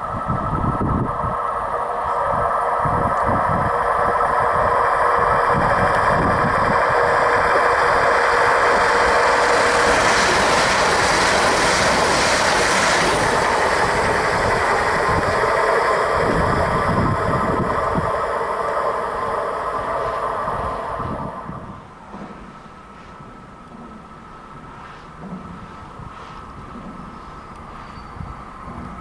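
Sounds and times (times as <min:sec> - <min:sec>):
electric train passing: 0:00.0 - 0:29.0
wheel-on-rail running noise: 0:00.0 - 0:29.0.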